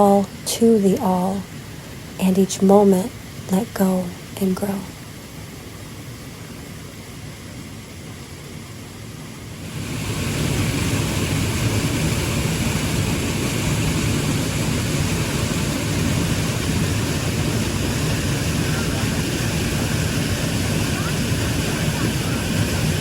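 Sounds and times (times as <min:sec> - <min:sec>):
faint hiss: 0:00.0 - 0:23.0.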